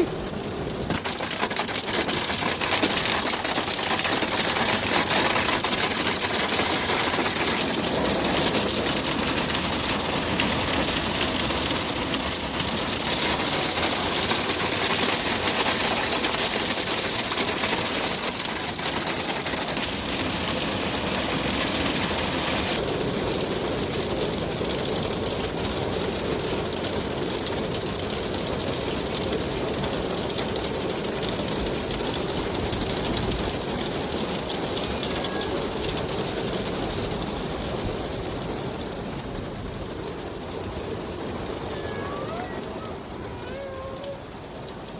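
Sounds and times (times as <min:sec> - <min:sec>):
hail pelting a metal roof: 0:00.0 - 0:44.9.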